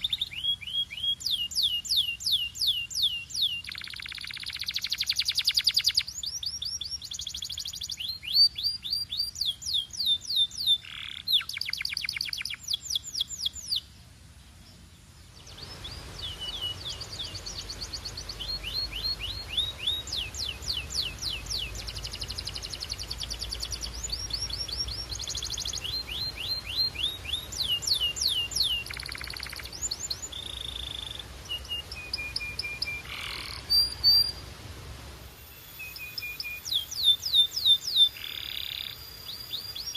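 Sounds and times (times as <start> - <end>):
canary singing fast trills: 0.0 - 13.9, 15.2 - 34.4, 35.4 - 39.9.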